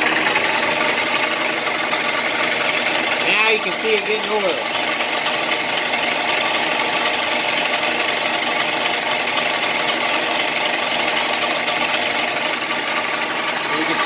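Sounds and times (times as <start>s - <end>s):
lathe gears whirring: 0.0s - 14.0s.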